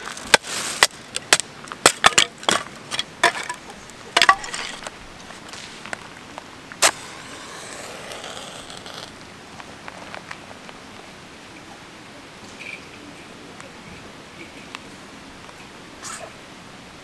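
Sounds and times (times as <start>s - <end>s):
soft steady hiss: 0.0s - 17.0s.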